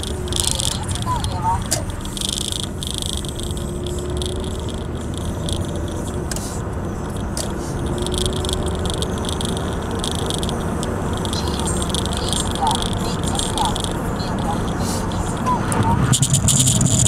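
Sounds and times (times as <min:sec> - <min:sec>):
car engine and tyre rumble: 0:00.0 - 0:17.0
high-pitched rattling: 0:00.0 - 0:17.0
sharp clicks: 0:00.0 - 0:17.0.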